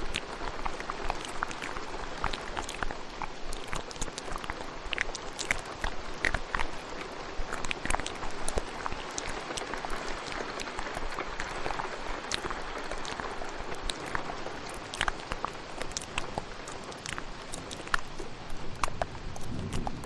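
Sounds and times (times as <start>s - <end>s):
steady rain: 0.0s - 20.0s
wet mouth clicks: 0.0s - 20.0s.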